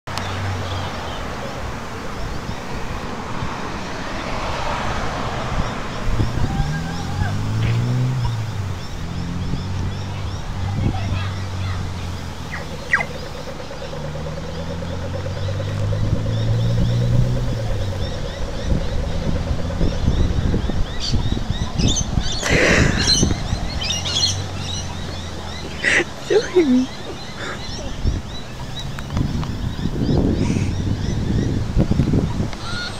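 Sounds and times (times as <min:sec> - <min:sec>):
car driving past: 0:00.1 - 0:32.5
birds chirping: 0:00.1 - 0:32.9
wind noise on microphone: 0:00.4 - 0:32.9.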